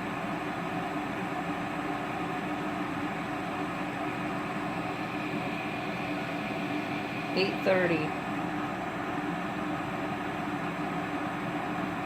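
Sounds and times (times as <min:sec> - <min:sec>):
kettle water boiling: 0:00.0 - 0:12.0.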